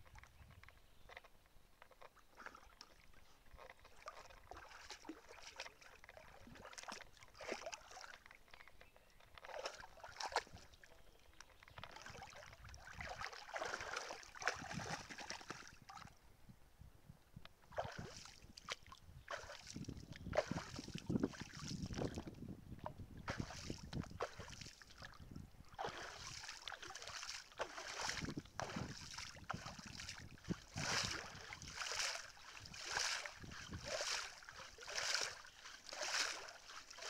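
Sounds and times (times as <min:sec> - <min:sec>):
dog splashing in shallow water: 0:02.3 - 0:08.5, 0:09.3 - 0:11.0, 0:11.6 - 0:16.1, 0:17.7 - 0:22.3, 0:23.2 - 0:37.0.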